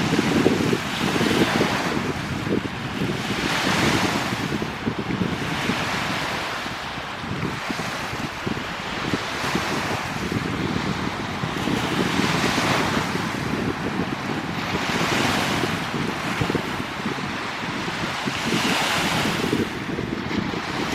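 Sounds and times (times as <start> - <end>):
waves washing onto shore: 0.0 - 20.9
wind buffeting microphone: 0.0 - 20.9.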